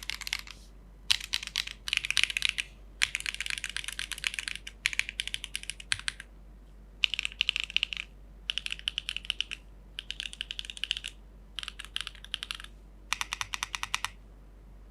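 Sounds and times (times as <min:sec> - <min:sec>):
mechanical keyboard typing: 0:00.0 - 0:06.3, 0:07.0 - 0:14.2.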